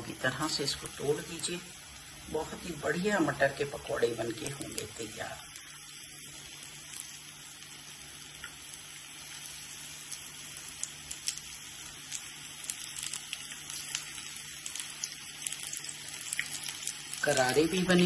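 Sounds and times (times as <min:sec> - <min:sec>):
deep-frying sizzle with pops: 0:00.0 - 0:18.0.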